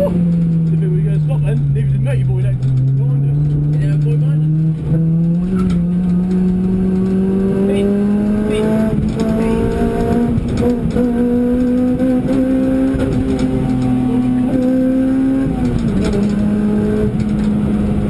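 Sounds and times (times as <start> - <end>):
car engine running hard: 0.0 - 18.0.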